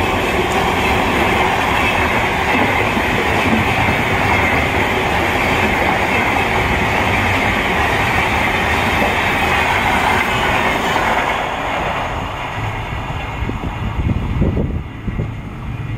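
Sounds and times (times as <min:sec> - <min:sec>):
train rumble and wheel clatter: 0:00.0 - 0:15.9.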